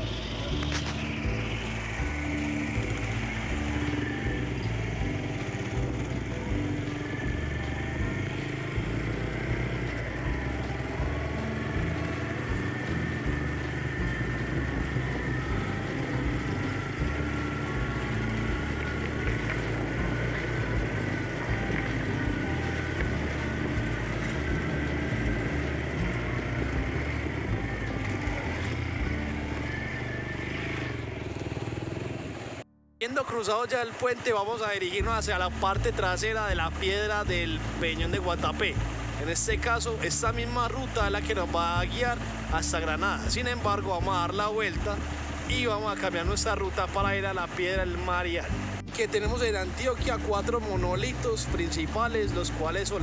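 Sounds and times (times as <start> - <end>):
motorcycle engine running: 0.0 - 32.7, 33.4 - 53.0.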